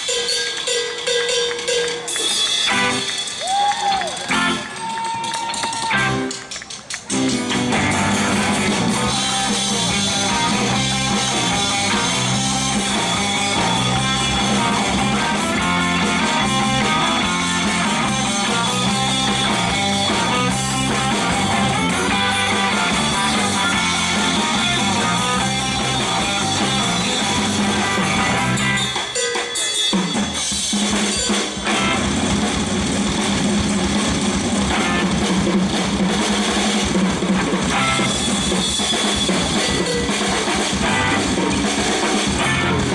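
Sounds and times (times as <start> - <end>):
live band playing instrumental: 0.0 - 42.9.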